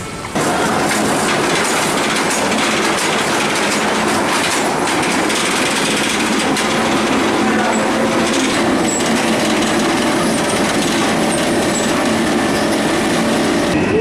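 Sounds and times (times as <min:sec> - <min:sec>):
roller coaster wheels on rail: 0:00.0 - 0:14.0
rattling and clatter: 0:00.4 - 0:13.8.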